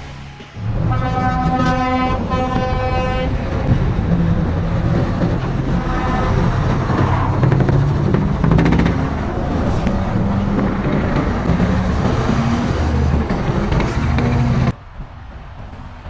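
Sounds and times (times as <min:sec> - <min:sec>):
heavy truck engine under load: 0:00.0 - 0:16.0.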